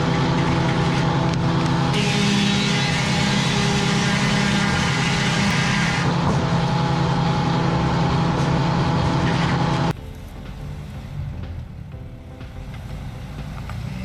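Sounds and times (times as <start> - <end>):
rushing noise: 0.0 - 11.9
heavy vehicle engine running: 0.0 - 14.0.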